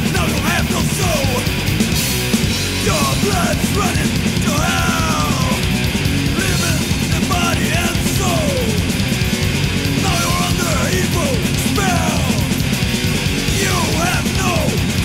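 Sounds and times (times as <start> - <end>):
distorted guitars: 0.0 - 15.0
fast dense drumming: 0.0 - 15.0.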